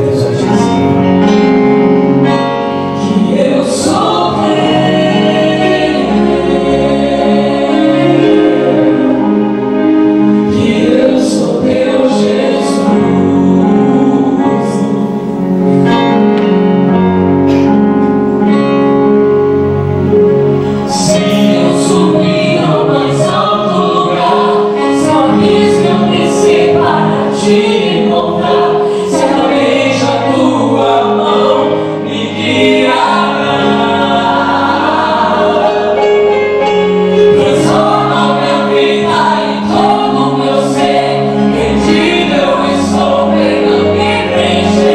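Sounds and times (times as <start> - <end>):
instrumental accompaniment: 0.0 - 44.9
group singing a worship song: 2.6 - 16.1, 20.9 - 44.9.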